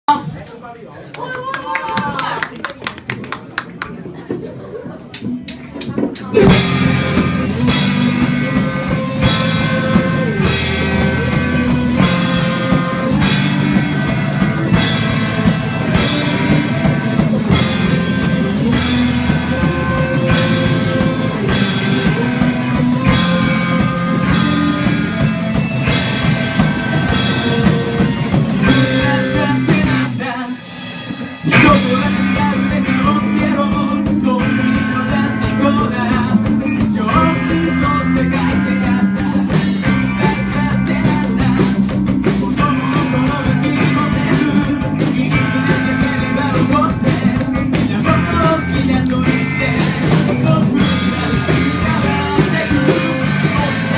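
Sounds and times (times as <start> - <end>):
drum kit: 3.2 - 53.9
electric guitar: 4.4 - 53.9.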